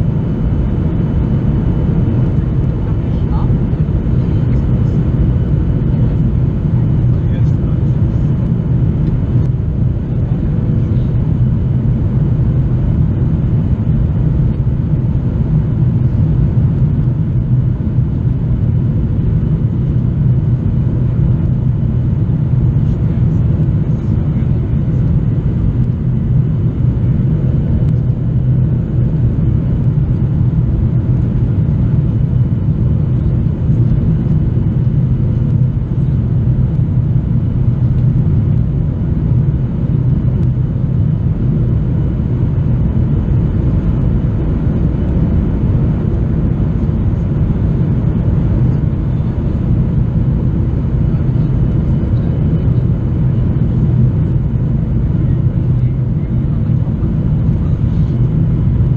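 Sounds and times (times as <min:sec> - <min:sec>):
aircraft cabin rumble: 0:00.0 - 0:58.9.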